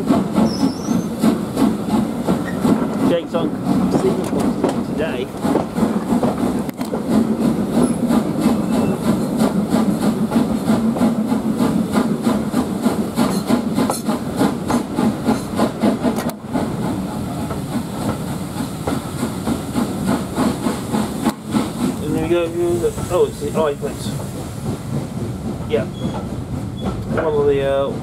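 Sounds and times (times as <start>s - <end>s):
steam hissing: 0.0s - 28.0s
steam locomotive exhaust beats: 0.0s - 28.0s.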